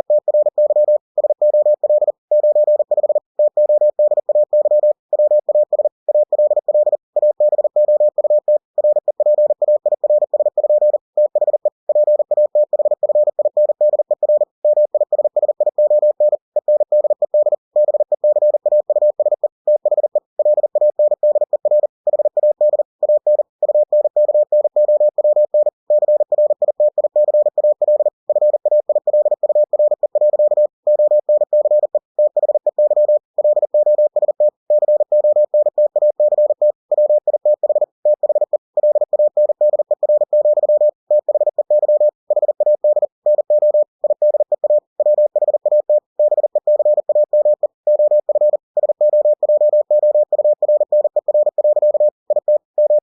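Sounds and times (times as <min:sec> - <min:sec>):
morse code beeps: 0:00.0 - 0:53.0.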